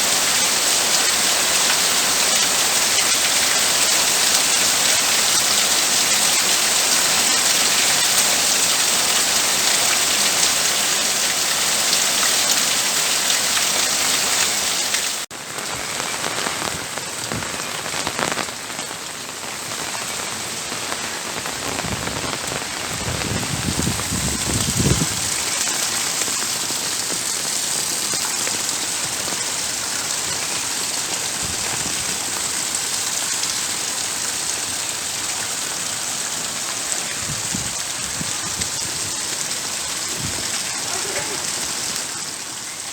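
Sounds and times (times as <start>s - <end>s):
rain pattering on a roof: 0.0s - 42.9s.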